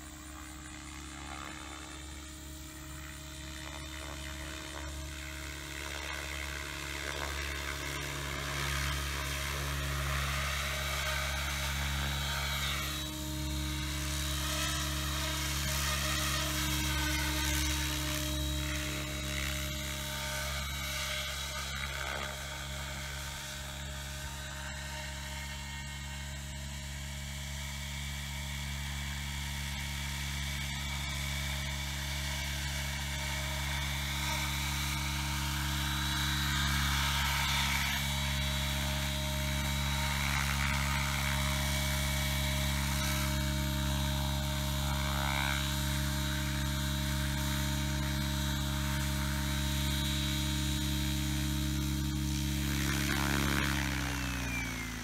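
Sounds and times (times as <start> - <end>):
rc helicopter rotor buzzing whine: 0.0 - 55.0.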